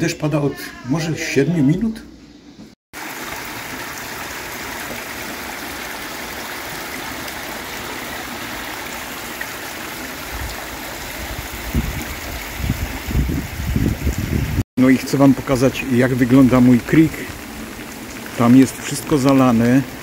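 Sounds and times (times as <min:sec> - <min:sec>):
water rushing over rocks: 0:03.0 - 0:20.0.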